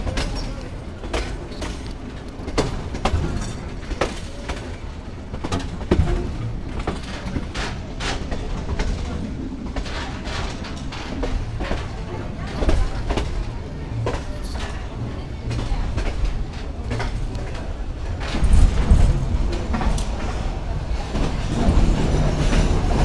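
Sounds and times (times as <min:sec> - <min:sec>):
train rumbling inside carriage: 0:00.0 - 0:23.0
wheels knocking and clattering: 0:00.0 - 0:23.0.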